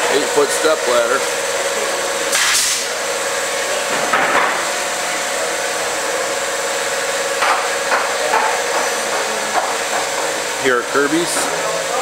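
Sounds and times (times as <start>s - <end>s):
machine hiss with faint hum: 0.0s - 12.0s.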